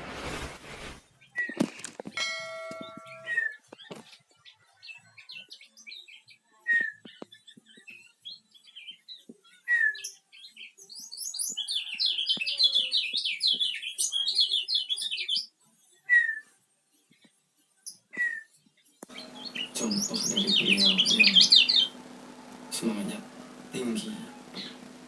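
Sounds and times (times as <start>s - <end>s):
songbird chirping and twittering: 2.3s - 25.0s.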